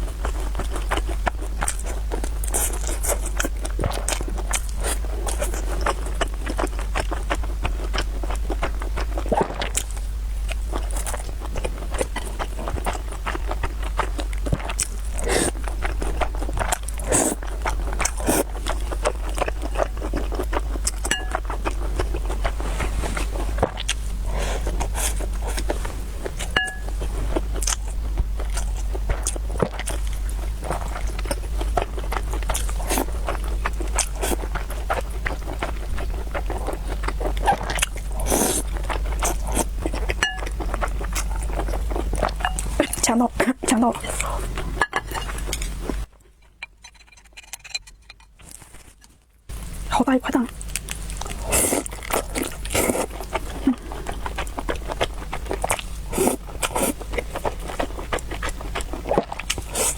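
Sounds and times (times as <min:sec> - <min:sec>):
person chewing crunchy food: 0:00.0 - 0:59.9
steady low hum: 0:00.0 - 0:59.9.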